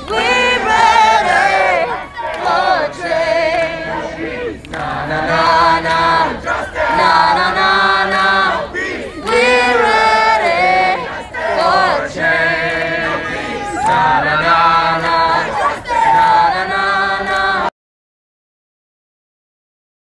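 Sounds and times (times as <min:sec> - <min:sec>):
choir singing: 0:00.0 - 0:17.7.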